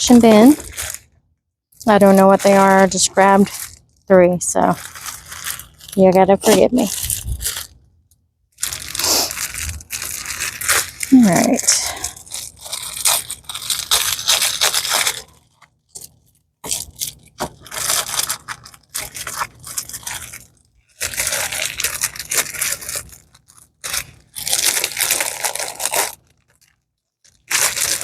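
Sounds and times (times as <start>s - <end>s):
plastic packaging crinkling: 0.0s - 7.9s, 8.5s - 28.0s.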